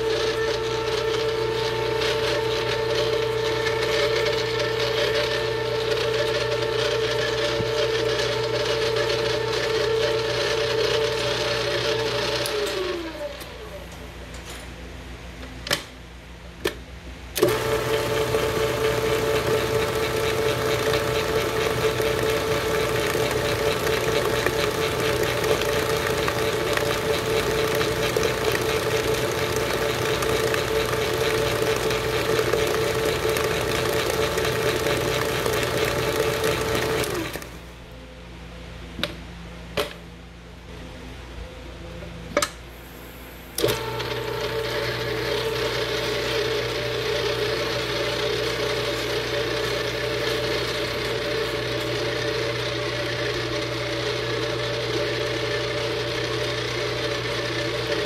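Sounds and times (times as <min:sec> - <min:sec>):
stand mixer motor whine: 0:00.0 - 0:13.7, 0:17.4 - 0:37.6, 0:43.6 - 0:58.0.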